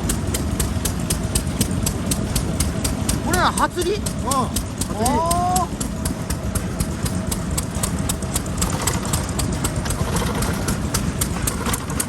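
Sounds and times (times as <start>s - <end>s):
stationary engines chugging: 0.0s - 12.0s.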